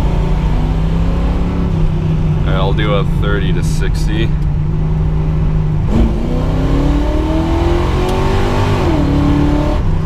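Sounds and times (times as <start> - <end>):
car engine at full throttle: 0.0 - 10.0.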